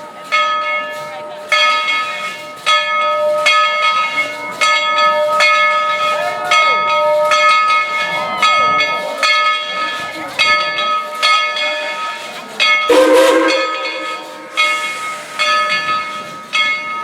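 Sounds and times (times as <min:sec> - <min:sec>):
steam locomotive bell ringing: 0:00.0 - 0:17.0.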